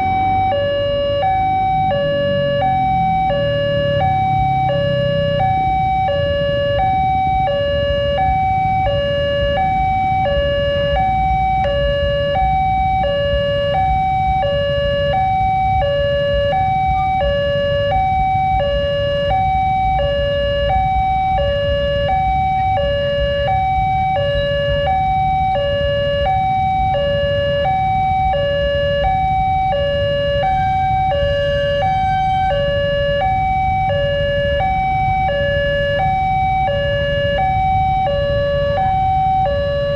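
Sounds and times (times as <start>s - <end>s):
level crossing two-tone alarm: 0.0s - 39.9s
road traffic rumble: 0.0s - 39.9s.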